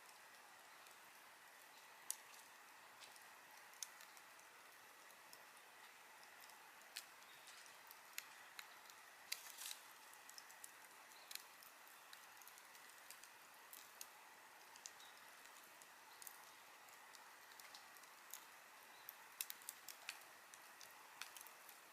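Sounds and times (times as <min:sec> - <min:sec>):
burning wood popping: 0:00.0 - 0:21.9
campfire hissing: 0:00.0 - 0:21.9.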